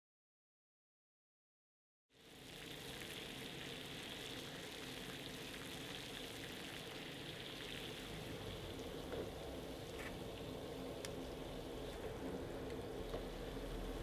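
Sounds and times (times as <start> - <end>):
water boiling in a saucepan: 2.1 - 14.0.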